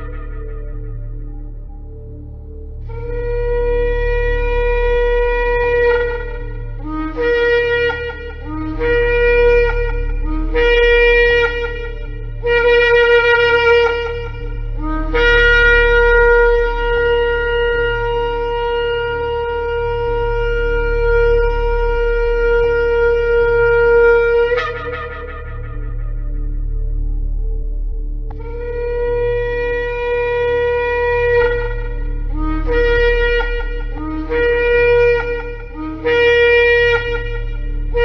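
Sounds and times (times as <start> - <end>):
shofar blasts: 2.9 - 27.3, 28.3 - 38.0.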